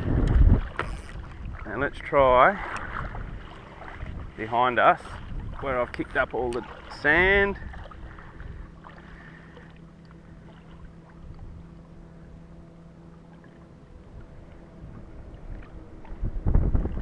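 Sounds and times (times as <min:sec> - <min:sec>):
water splashing: 0:00.0 - 0:11.8, 0:13.0 - 0:17.0
water lapping around legs: 0:00.0 - 0:17.0.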